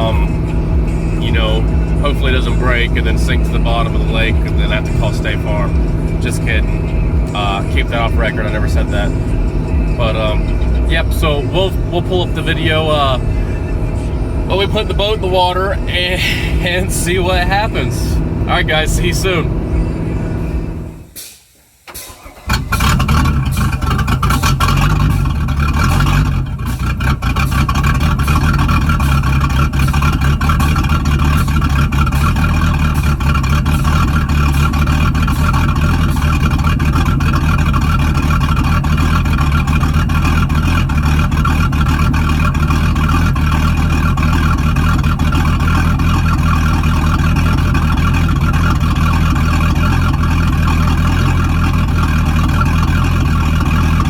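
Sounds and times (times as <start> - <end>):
boat engine starting and running: 0.0 - 54.0.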